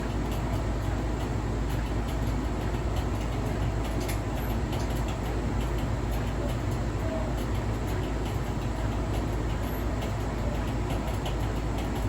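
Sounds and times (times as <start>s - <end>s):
appliance low rumble: 0.0s - 12.0s
faint irregular clicks: 1.7s - 12.0s.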